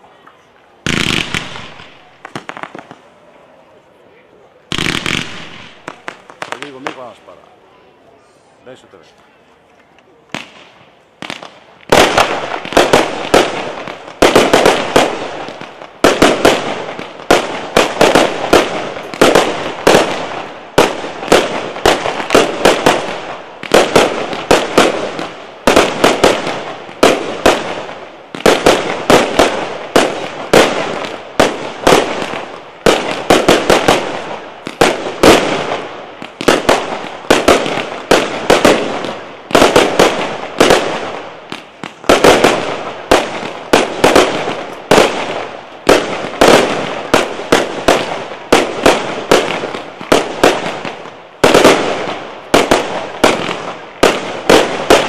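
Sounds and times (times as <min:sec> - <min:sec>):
small firework pops: 0:00.2 - 0:03.1, 0:04.7 - 0:07.2, 0:09.1 - 0:55.0.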